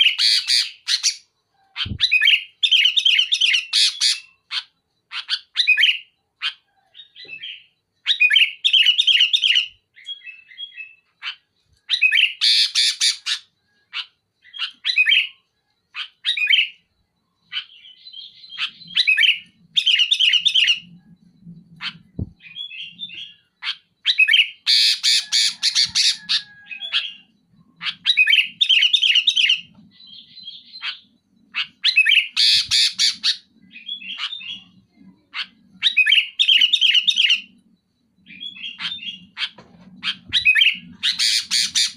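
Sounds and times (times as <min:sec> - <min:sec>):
bird singing: 0:00.0 - 0:41.9.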